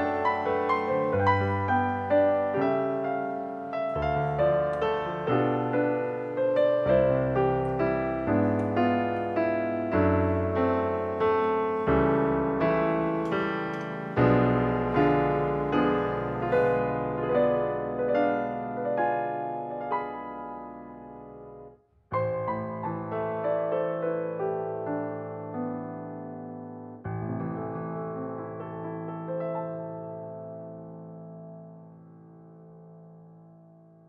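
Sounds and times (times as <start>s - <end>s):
gentle piano music: 0.0s - 34.0s.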